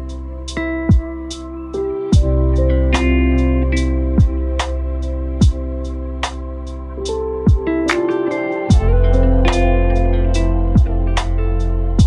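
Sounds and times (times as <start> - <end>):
instrumental music with drum beat: 0.0 - 12.0.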